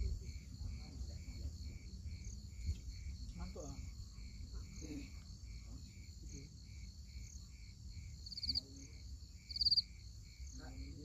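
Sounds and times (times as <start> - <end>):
crickets chirping: 0.0 - 11.0
high insect drone: 0.0 - 11.0.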